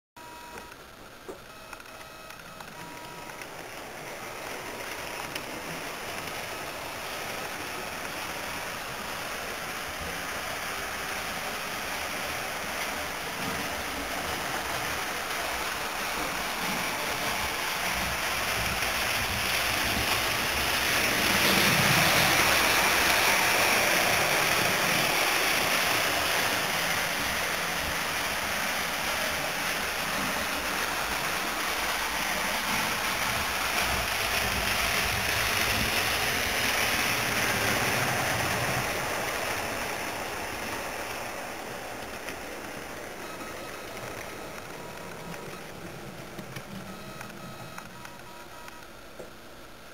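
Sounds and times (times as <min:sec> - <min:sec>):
model train running on track: 0:00.2 - 0:49.9.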